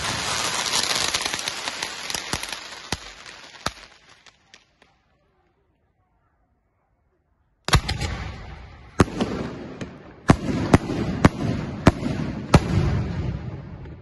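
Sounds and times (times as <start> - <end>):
fireworks bangs: 0.0 - 5.0, 7.7 - 14.0.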